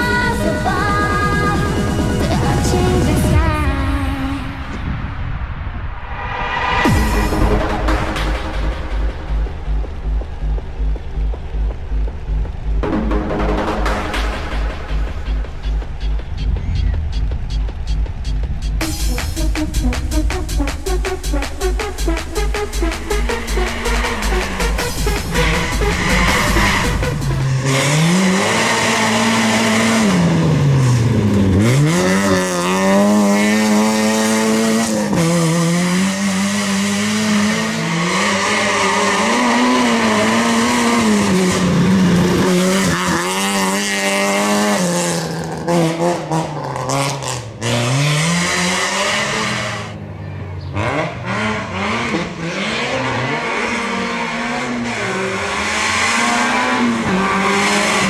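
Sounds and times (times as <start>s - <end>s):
rally car engine revving: 6.6s - 58.0s.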